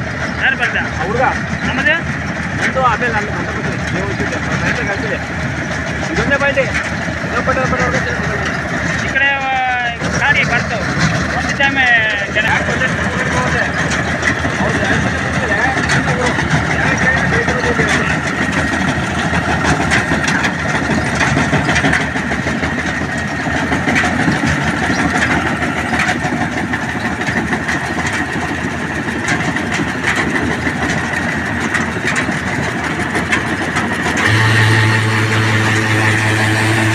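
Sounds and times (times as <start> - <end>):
combine harvester running: 0.0 - 36.9
deep steady hum: 0.0 - 36.9.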